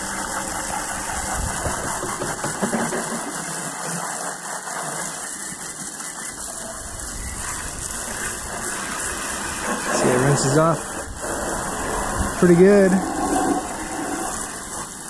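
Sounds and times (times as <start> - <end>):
hose water spraying on engine: 0.0 - 15.0.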